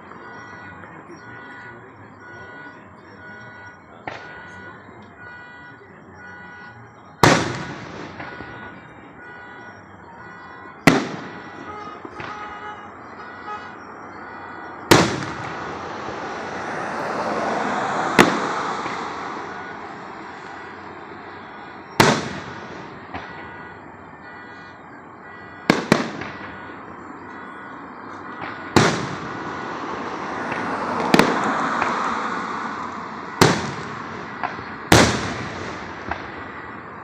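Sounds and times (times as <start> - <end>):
fireworks bangs with rumbling echo: 2.2 - 4.6, 7.2 - 9.6, 10.2 - 37.0.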